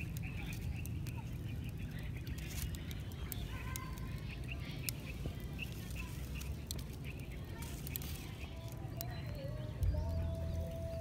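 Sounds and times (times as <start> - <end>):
birds chirping: 0.0 - 11.0
fire crackling: 0.0 - 11.0.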